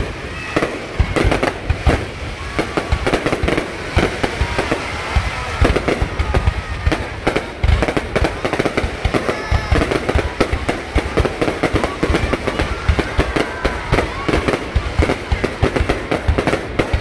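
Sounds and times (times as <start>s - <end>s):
fireworks bangs and crackling: 0.0s - 17.0s
onlookers' voices: 0.0s - 17.0s.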